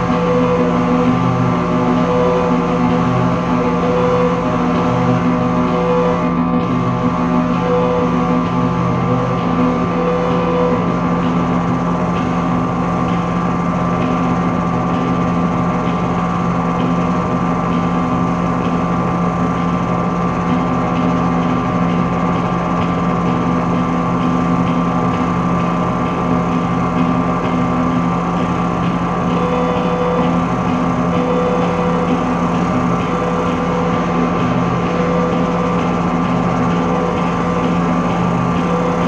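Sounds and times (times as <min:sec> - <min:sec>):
droning ambient music: 0:00.0 - 0:39.0.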